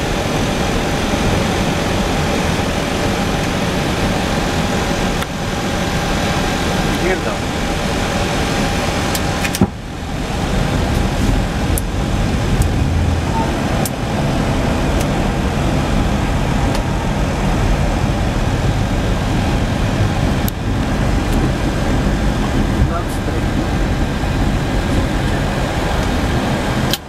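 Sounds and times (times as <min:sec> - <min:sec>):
cockpit airflow and air conditioning: 0:00.0 - 0:27.0.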